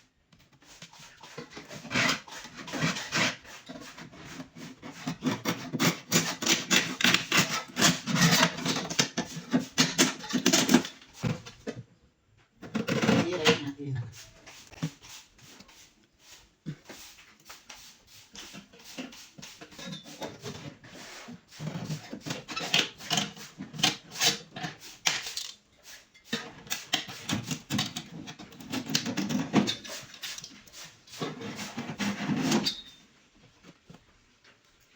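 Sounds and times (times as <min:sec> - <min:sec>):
scraping and rubbing strokes: 0:00.5 - 0:11.6, 0:12.8 - 0:33.8.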